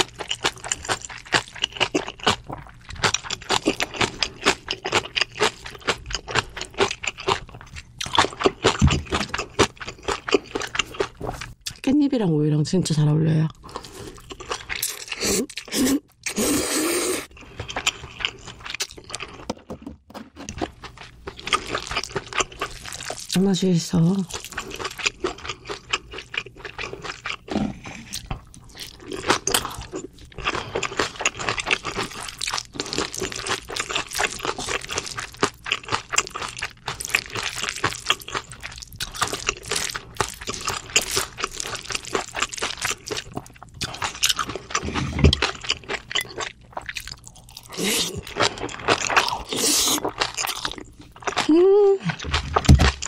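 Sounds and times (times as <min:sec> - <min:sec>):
wet crunching and chewing: 0:00.0 - 0:11.8, 0:13.5 - 0:16.5, 0:17.2 - 0:19.5, 0:20.2 - 0:53.0.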